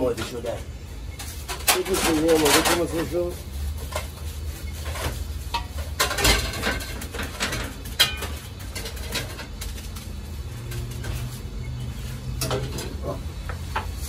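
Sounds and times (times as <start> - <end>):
metal ladle scraping on griddle: 0.1 - 13.2.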